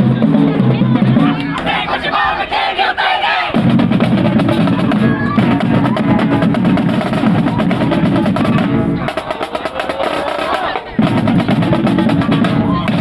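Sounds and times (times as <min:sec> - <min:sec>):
snare and bass drums: 0:00.0 - 0:01.7, 0:03.5 - 0:13.0
marching band playing: 0:00.0 - 0:13.0.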